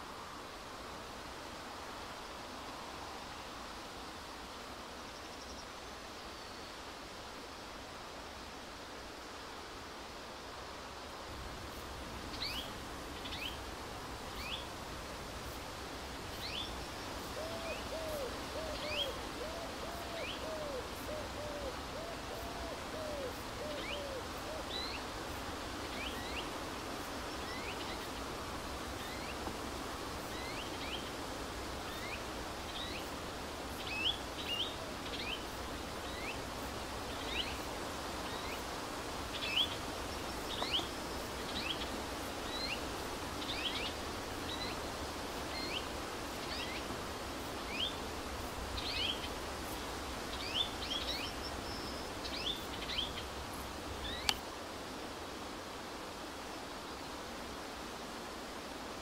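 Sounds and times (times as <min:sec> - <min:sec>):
outdoor background noise: 0:00.0 - 0:59.0.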